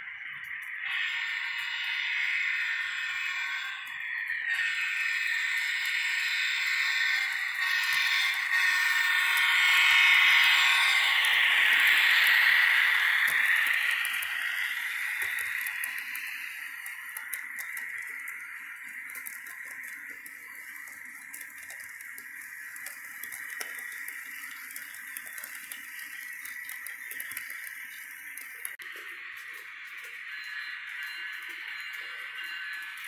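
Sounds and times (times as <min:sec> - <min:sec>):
model train wheels on rail: 0:00.0 - 0:33.0.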